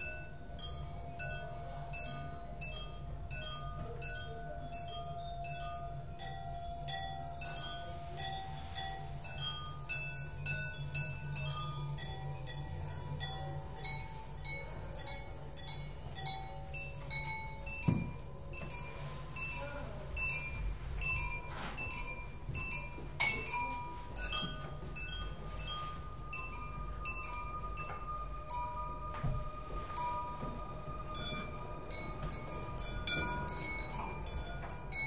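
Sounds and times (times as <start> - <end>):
ceramic bowls struck ringing: 0.0 - 35.0
steady ringing tone: 0.0 - 35.0.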